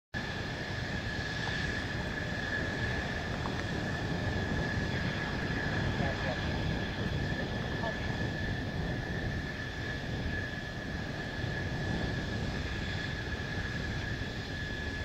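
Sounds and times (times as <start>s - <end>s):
jet engines whining: 0.2s - 15.0s.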